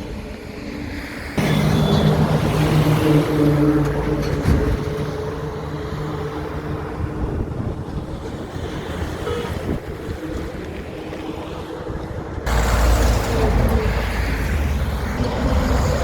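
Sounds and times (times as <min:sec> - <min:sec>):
road noise rumble: 0:00.0 - 0:16.0.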